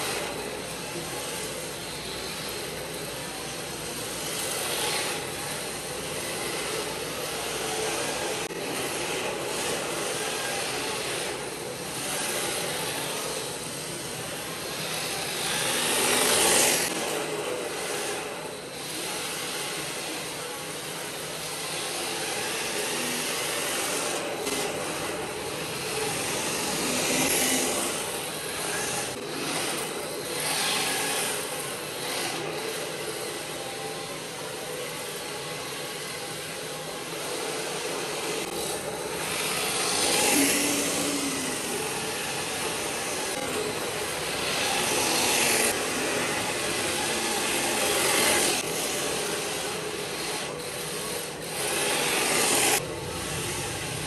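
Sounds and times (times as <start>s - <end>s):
rc cars drifting: 0.0s - 54.0s.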